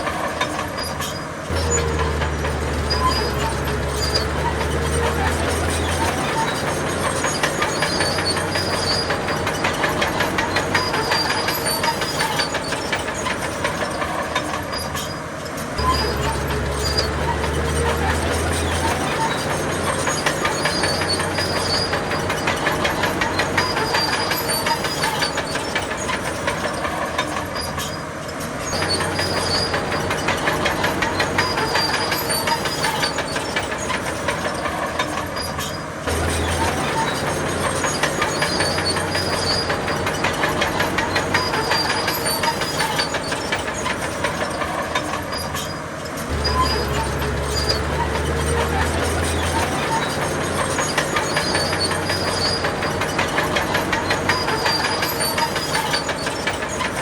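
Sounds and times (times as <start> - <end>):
heavy diesel engine: 0.0 - 57.0
rapid metallic clatter: 0.0 - 57.0.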